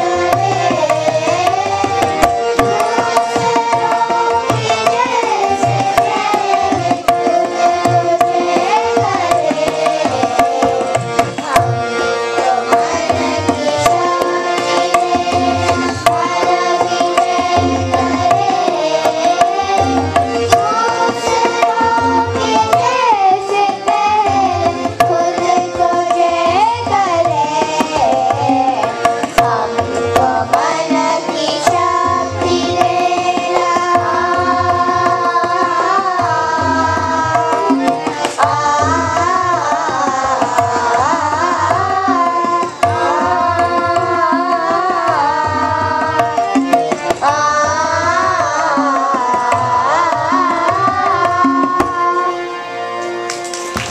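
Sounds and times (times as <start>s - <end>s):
children's chorus singing: 0.0s - 52.6s
tabla drumming: 0.0s - 53.9s.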